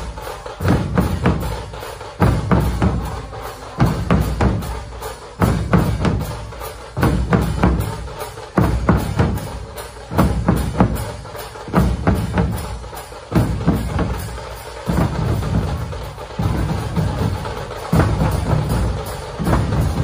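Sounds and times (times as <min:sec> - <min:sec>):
barrel drums beating: 0:00.0 - 0:20.0.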